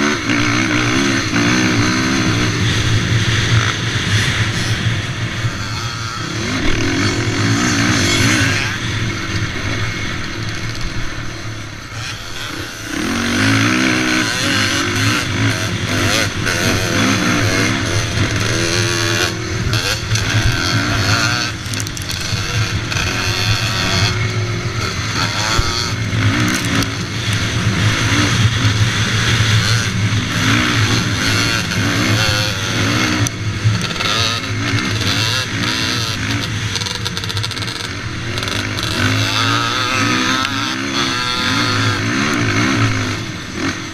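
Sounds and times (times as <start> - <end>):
quad engine revving: 0.0 - 10.8, 11.7 - 43.9.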